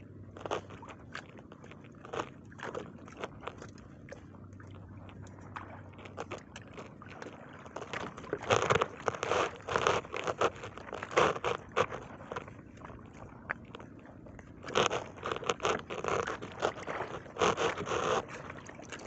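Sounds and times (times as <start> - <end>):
fish handling scraping and clicking: 0.0 - 19.0.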